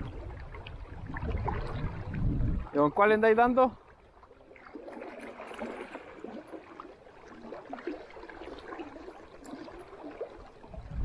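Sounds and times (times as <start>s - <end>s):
river water gurgling: 0.0s - 11.0s.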